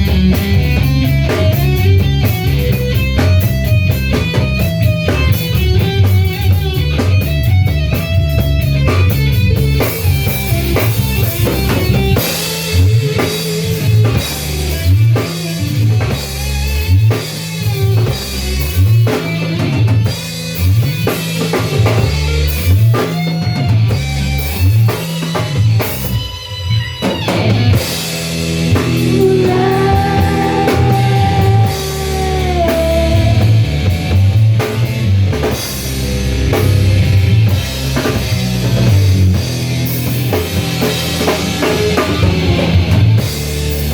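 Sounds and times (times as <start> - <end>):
bending lead guitar: 0.0 - 43.9
rock band playing: 0.0 - 43.9.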